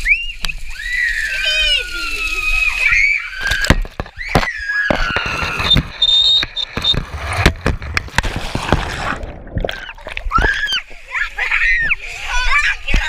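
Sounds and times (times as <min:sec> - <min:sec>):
rushing water in slide: 0:00.0 - 0:13.0.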